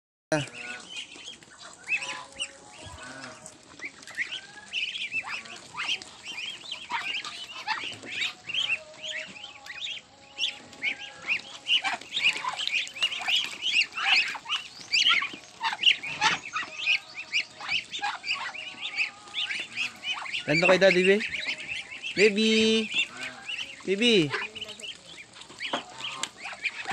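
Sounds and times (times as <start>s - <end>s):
ducks calling: 0.3s - 26.9s.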